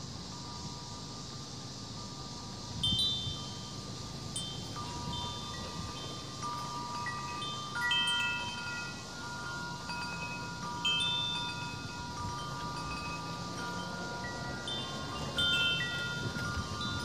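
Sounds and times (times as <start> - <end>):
wind chimes ringing: 2.0 - 17.0.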